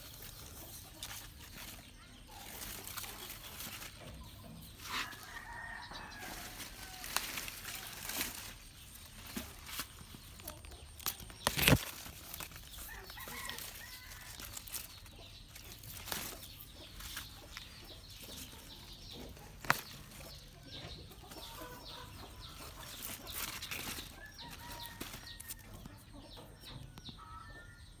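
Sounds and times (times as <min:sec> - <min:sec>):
leaves rustling and snapping: 0:00.0 - 0:25.7
chickens clucking: 0:00.0 - 0:28.0.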